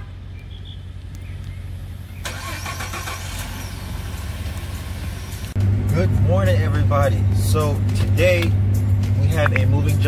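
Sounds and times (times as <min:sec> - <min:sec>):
pickup engine idling: 0:00.0 - 0:10.0.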